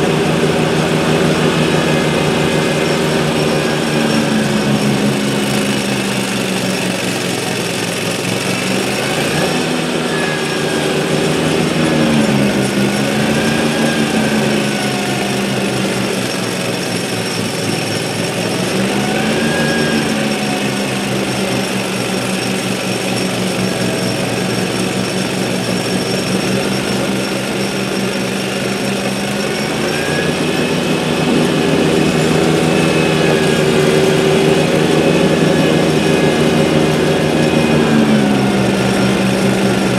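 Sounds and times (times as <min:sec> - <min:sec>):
mower engine running hard: 0:00.0 - 0:39.9
snowblower throwing snow: 0:00.0 - 0:39.9.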